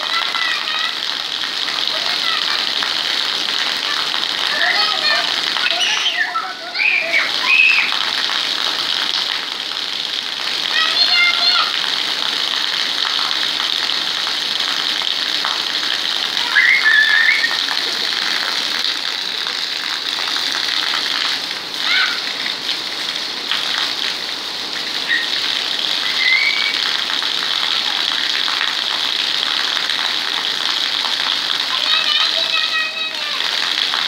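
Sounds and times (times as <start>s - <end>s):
heavy rain on concrete roof: 0.0s - 34.0s
water from drain splashing: 0.0s - 34.0s.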